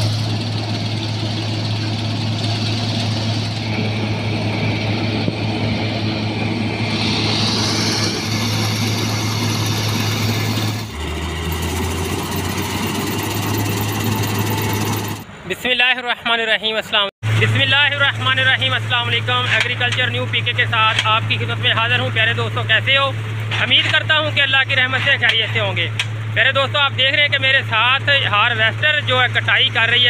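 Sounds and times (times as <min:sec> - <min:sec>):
combine harvester engine drone: 0:00.0 - 0:15.4, 0:17.2 - 0:30.0.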